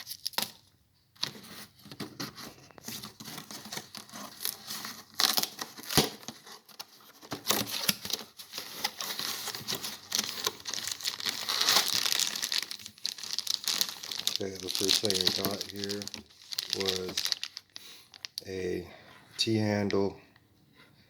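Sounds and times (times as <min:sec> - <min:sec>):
packaging rustling and crackling: 0:00.0 - 0:18.7.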